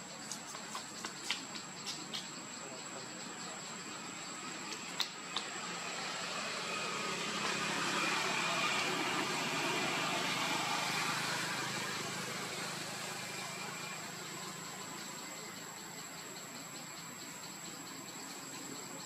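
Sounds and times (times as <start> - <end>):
engine passing by: 3.4 - 19.0.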